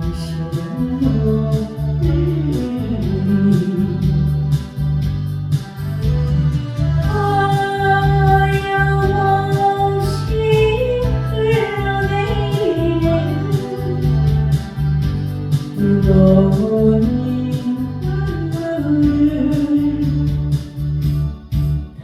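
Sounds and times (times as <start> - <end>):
backing track with guitar and beat: 0.0 - 22.0
person singing a ballad: 0.0 - 22.0.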